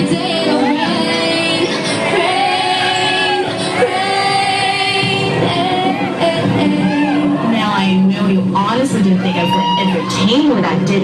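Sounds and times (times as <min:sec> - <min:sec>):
woman singing long sliding notes: 0:00.0 - 0:09.5
pop music: 0:00.0 - 0:11.0.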